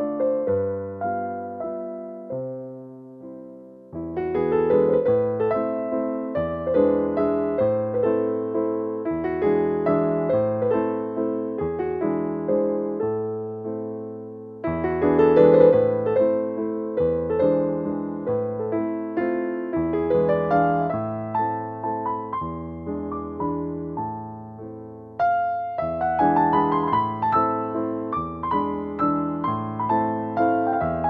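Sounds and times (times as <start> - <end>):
keyboard piano music: 0.0 - 31.0.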